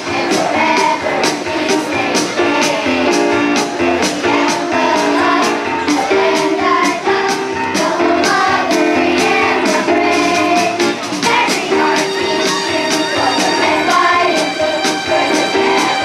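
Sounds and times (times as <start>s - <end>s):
accompanying music with beat: 0.0s - 16.0s
children's chorus singing: 0.0s - 16.0s.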